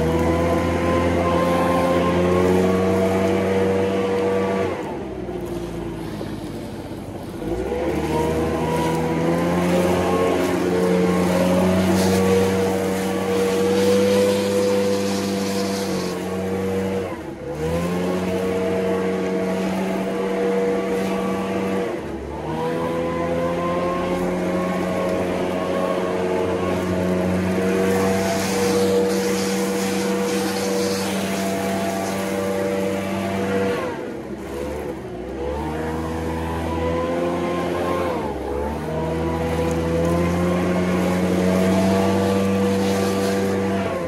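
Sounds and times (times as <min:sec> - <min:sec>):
leaf blower engine: 0:00.0 - 0:44.0.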